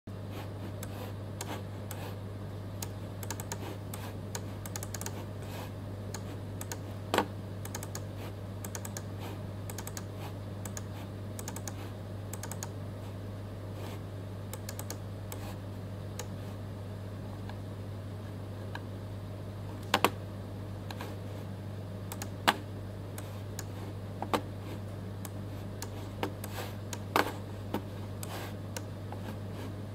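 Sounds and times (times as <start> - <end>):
low electrical hum: 0.1 - 29.9.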